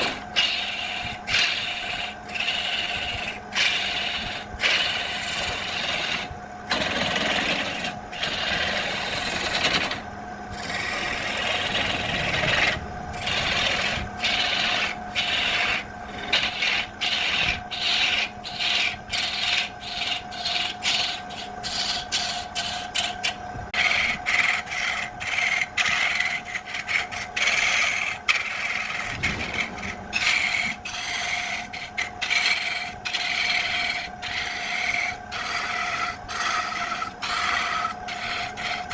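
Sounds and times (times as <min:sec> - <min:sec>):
sanding wood by hand: 0:00.0 - 0:10.0, 0:10.6 - 0:38.9
steady hum: 0:00.0 - 0:38.9.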